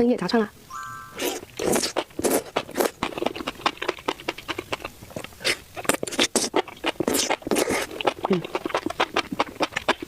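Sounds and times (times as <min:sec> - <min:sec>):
crunching and chewing crisp food: 0:01.2 - 0:10.0.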